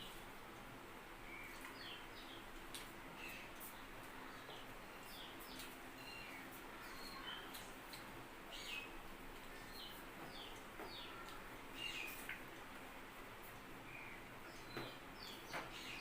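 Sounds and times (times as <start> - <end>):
small birds chirping: 1.2 - 16.0.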